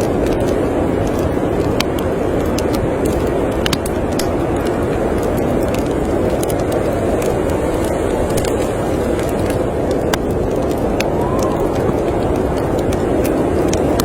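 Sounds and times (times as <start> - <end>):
storm wind rushing: 0.0 - 14.0
wood fire crackling: 0.0 - 14.0.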